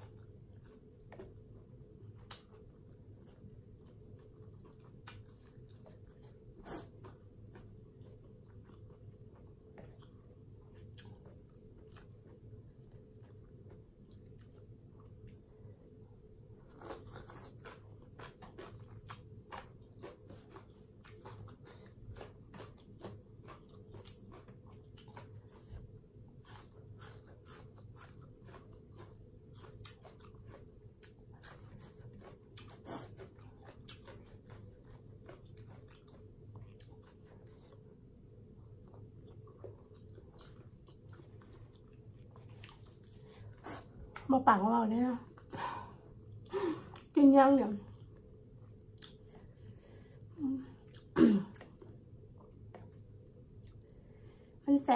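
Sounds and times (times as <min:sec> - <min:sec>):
chewing and crunching: 0:00.0 - 0:15.7, 0:16.6 - 0:44.3, 0:45.2 - 0:54.4
faint steady hum: 0:00.0 - 0:54.9.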